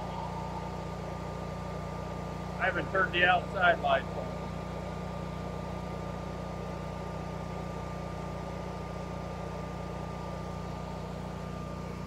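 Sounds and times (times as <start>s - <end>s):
generator engine hum: 0.0s - 12.0s
steady high whine: 0.0s - 12.0s.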